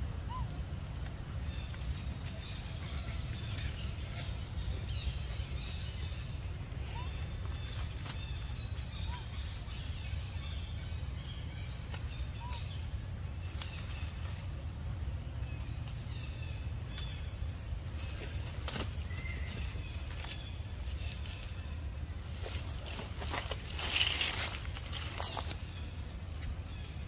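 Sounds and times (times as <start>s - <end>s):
leaves rustling and clicks: 0.9s - 9.8s, 11.8s - 27.0s.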